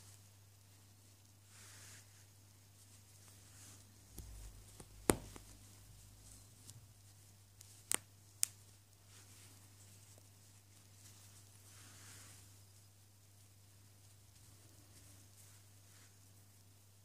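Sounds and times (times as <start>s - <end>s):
soft fabric handling: 0.0s - 17.0s.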